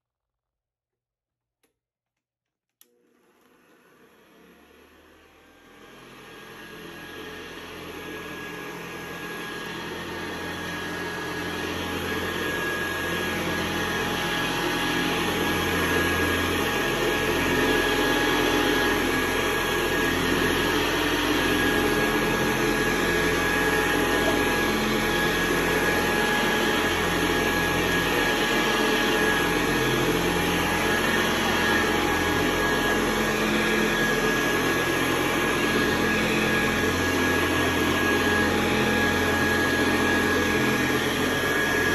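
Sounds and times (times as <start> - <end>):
vacuum cleaner whirring: 2.8 - 41.9.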